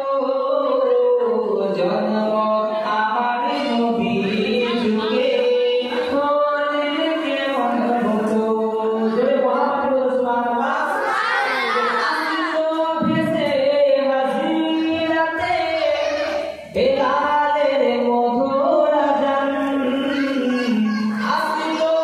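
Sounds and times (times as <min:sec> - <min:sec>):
man singing into a microphone: 0:00.0 - 0:11.0, 0:12.0 - 0:22.0.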